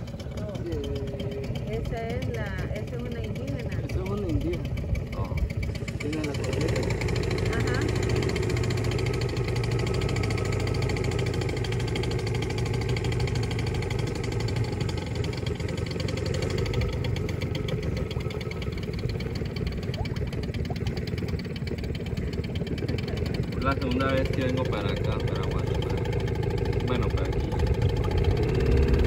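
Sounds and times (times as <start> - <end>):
boat motor running: 0.0 - 29.0.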